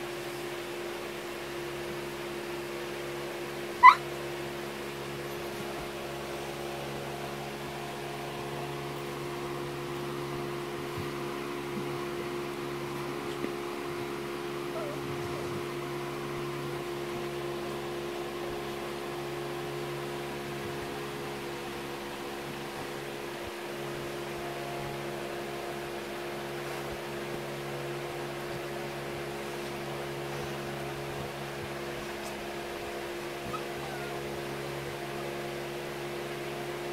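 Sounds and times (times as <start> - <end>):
household machine humming: 0.0 - 36.9.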